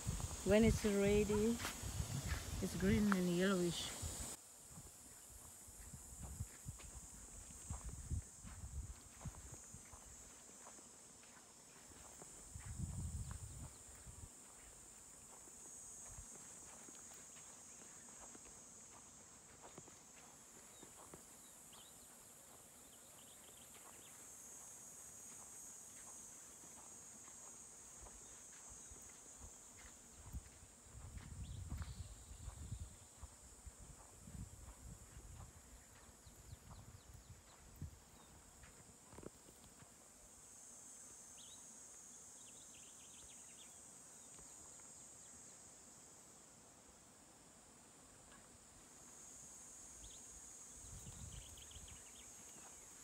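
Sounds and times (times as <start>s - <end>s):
faint insect chorus: 0.0s - 53.0s.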